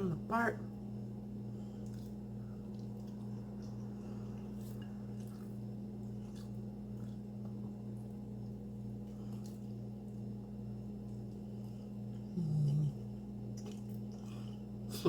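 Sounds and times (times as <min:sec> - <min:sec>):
person chewing food: 0:01.5 - 0:14.8.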